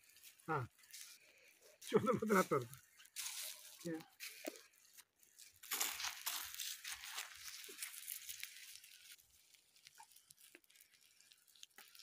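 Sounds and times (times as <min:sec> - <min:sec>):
dry sticks and grass rustling: 0:00.0 - 0:12.0
fire crackling: 0:00.0 - 0:12.0.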